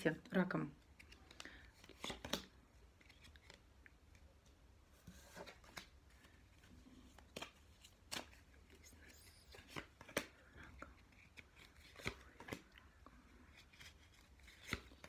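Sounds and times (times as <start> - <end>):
cards clicking and rustling: 0.8 - 4.3, 5.3 - 15.0.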